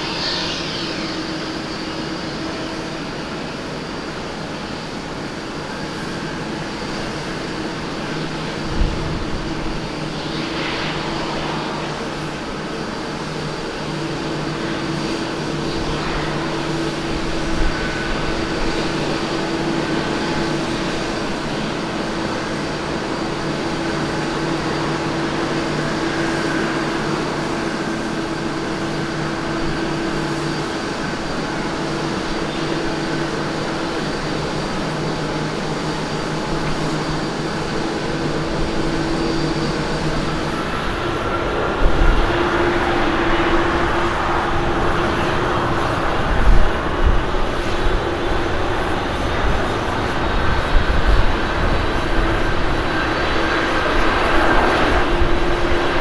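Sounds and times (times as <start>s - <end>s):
jet engine hum and whine: 0.0s - 56.0s.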